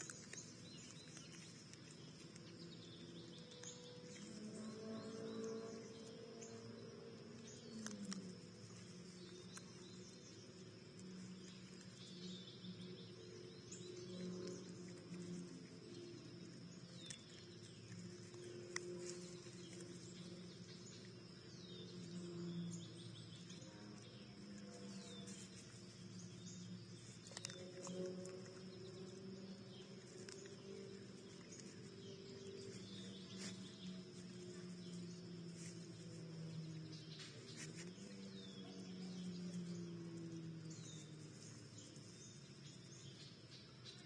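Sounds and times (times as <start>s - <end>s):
birds chirping: 0.0s - 44.0s
low sustained tones: 0.0s - 44.0s.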